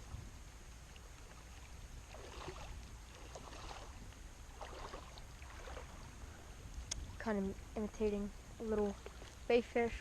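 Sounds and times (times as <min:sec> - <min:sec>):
steady low rumble: 0:00.0 - 0:10.0
creek water splashing: 0:00.8 - 0:10.0.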